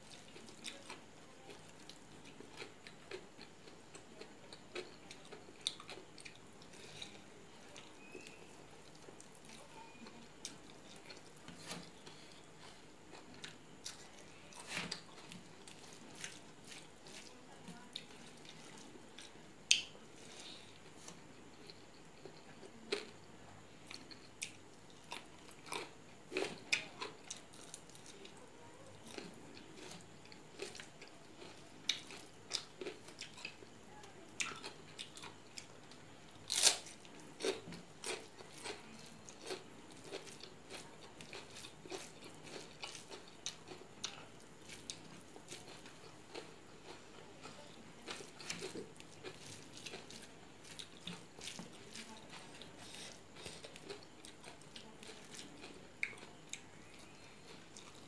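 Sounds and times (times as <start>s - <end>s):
person chewing and crunching: 0.0s - 23.2s, 23.8s - 28.4s, 29.0s - 33.8s, 34.4s - 58.0s.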